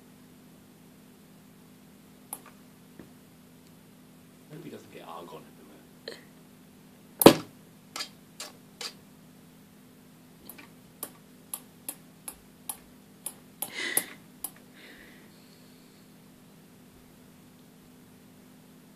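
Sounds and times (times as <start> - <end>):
plasma ball electrical hum: 0.0 - 18.9.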